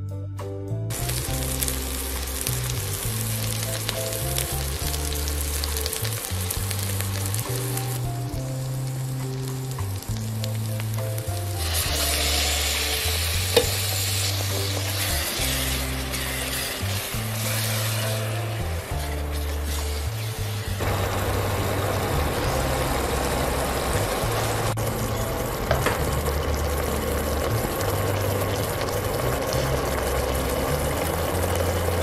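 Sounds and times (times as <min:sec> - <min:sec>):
background music: 0:00.0 - 0:32.0
onions sizzling in a pan: 0:00.9 - 0:32.0.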